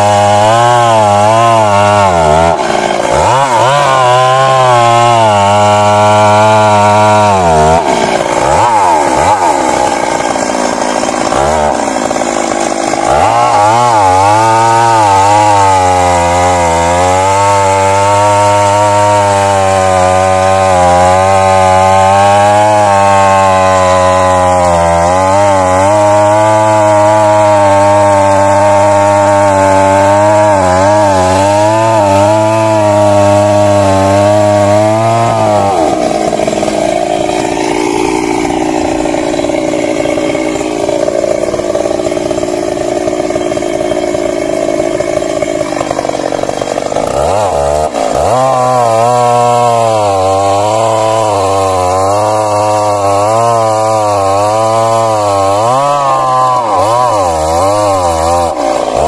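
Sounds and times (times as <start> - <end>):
chainsaw cutting at full throttle: 0.0 - 59.0.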